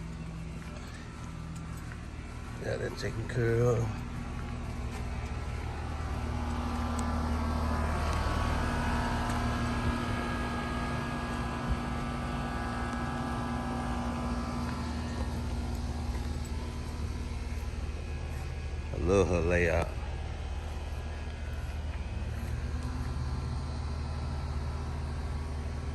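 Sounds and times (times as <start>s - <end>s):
engine humming: 0.0s - 25.9s.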